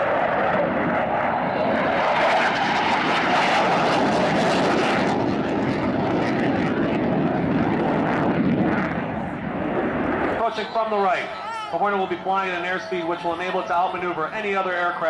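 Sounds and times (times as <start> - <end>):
jet fighter engines roaring: 0.0 - 15.0.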